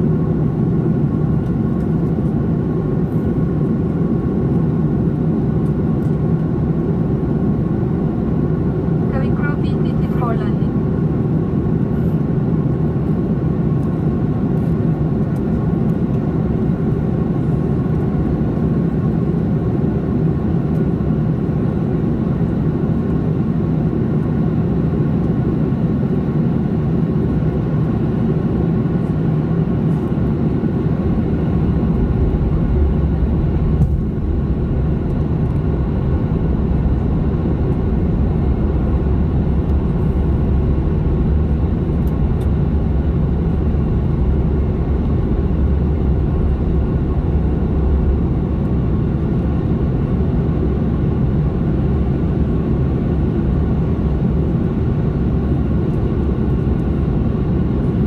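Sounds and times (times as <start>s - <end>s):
low rumble of engines and airflow: 0.0s - 58.0s.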